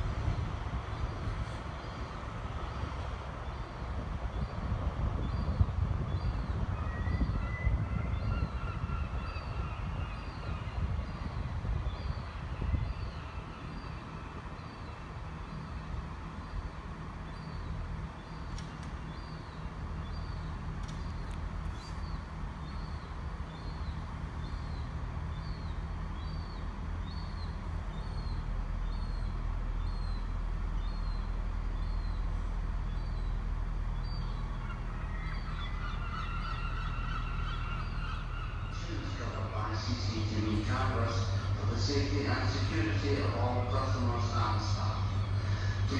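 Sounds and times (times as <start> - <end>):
diesel train engines rumbling: 0.0 - 45.9
bird chirping: 0.9 - 45.9.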